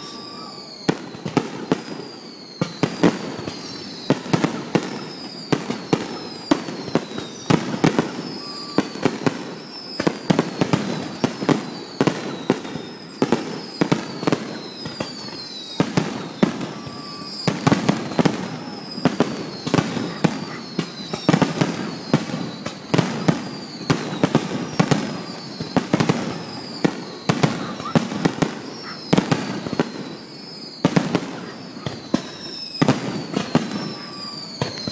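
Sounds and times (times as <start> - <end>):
falling high whistle: 0.0 - 34.9
firework crackling: 0.0 - 34.9.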